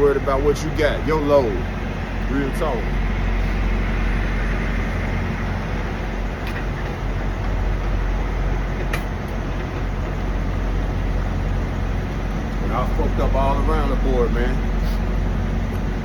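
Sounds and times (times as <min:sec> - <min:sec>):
diesel truck engines idling: 0:00.0 - 0:16.0.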